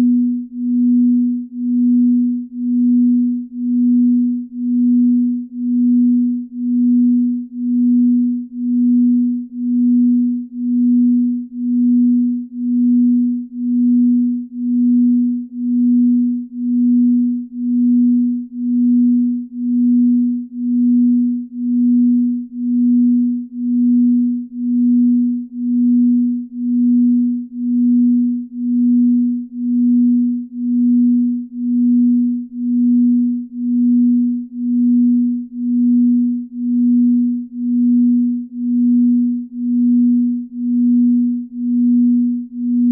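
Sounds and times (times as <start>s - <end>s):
steady low pulsing hum: 0.0s - 42.9s.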